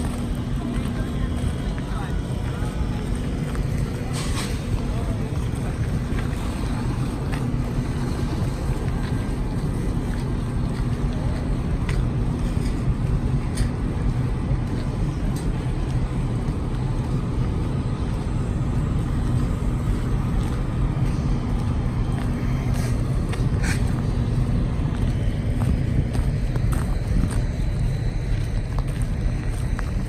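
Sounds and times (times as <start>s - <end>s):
low hum: 0.0s - 30.0s
vehicle rumbling: 0.0s - 30.0s.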